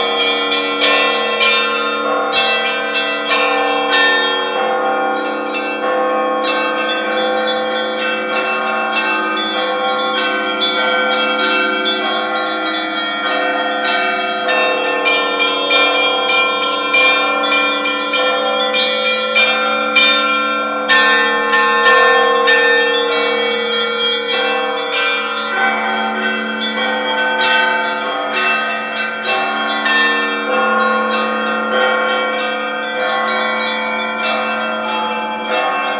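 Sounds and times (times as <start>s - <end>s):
church bells ringing: 0.0s - 35.9s.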